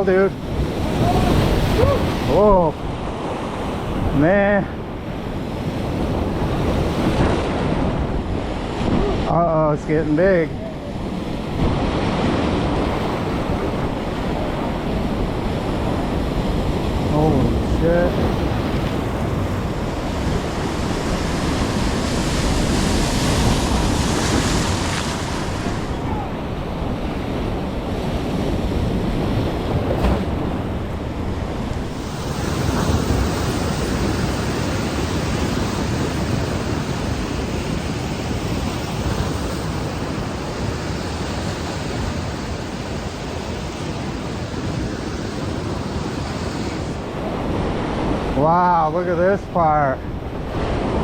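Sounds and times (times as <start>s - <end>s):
waves breaking against pier: 0.0s - 51.0s
wind buffeting microphone: 0.0s - 51.0s.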